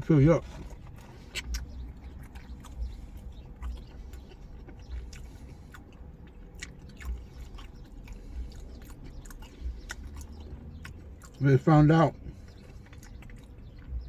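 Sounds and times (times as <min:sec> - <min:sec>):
person chewing food: 0:00.4 - 0:14.0.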